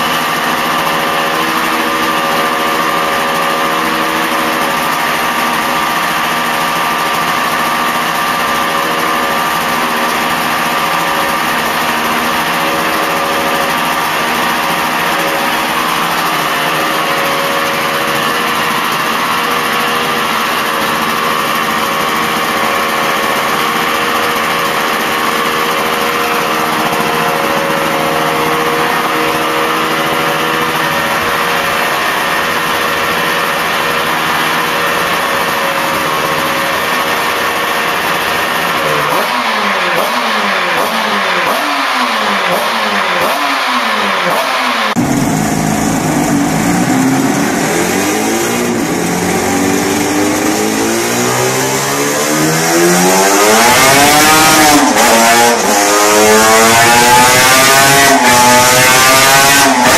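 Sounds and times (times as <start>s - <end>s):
two-stroke engine idling and blipping: 0.0s - 59.9s
two-stroke engine revving on dynamometer: 0.0s - 59.9s.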